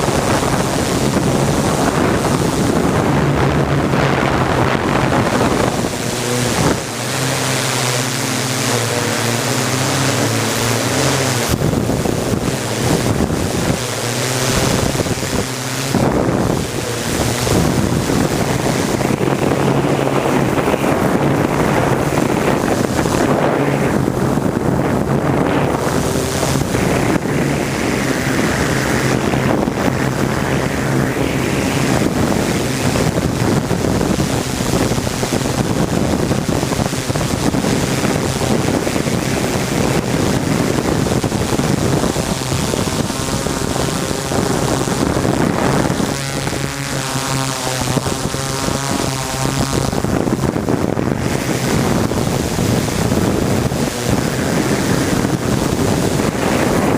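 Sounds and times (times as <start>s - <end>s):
drone rotors humming: 0.0s - 56.9s
high whining tones: 0.0s - 56.9s
wind rushing on microphone: 0.0s - 56.9s.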